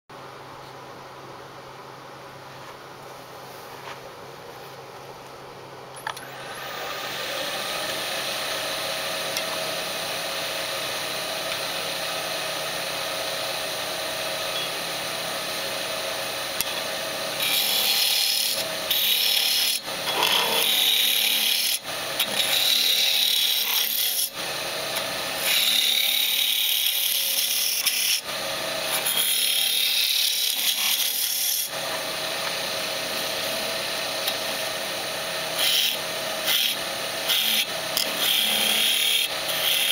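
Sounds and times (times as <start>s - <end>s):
wood lathe motor hum: 6.1s - 39.9s
gouge cutting spinning wood: 6.2s - 39.9s.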